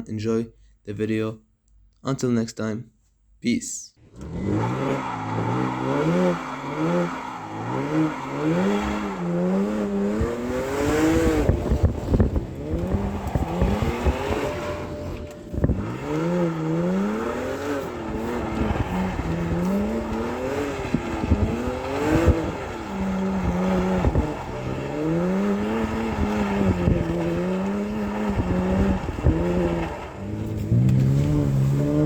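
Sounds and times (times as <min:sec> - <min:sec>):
car engine revving: 0:04.0 - 0:32.0.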